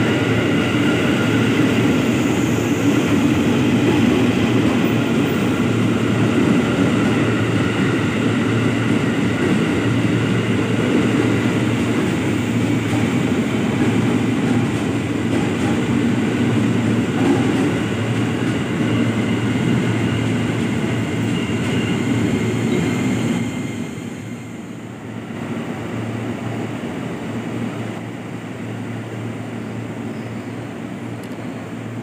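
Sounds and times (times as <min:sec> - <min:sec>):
train humming at platform: 0:00.0 - 0:32.0
train wheels rumbling on rails: 0:00.0 - 0:32.0.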